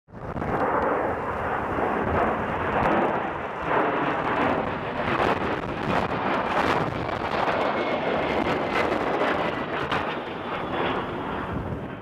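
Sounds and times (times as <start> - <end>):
jet aircraft flying overhead: 0.1 - 12.0.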